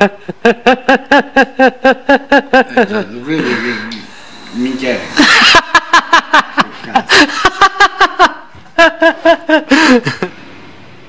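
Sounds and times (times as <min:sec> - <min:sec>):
man laughing hard: 0:00.0 - 0:03.7, 0:05.1 - 0:10.3.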